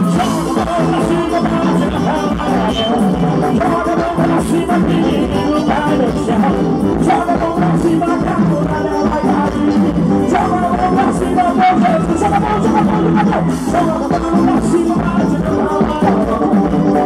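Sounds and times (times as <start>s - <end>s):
accordion: 0.0s - 17.0s
drums with steady beat: 0.0s - 17.0s
keyboard: 0.0s - 17.0s
person singing lead: 0.0s - 17.0s.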